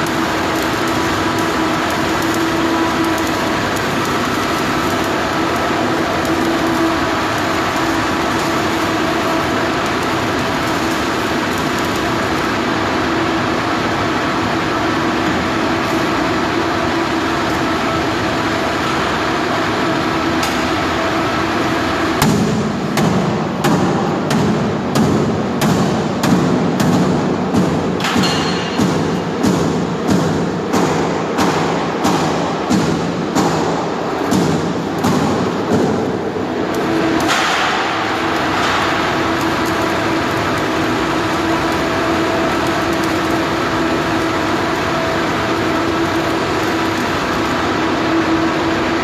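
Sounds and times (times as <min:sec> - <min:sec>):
machine drone with hum tones: 0:00.0 - 0:49.0.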